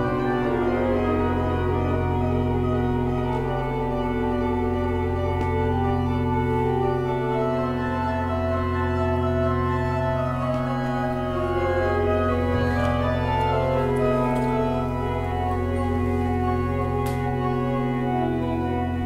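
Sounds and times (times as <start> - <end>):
electronic organ chords: 0.0 - 19.0.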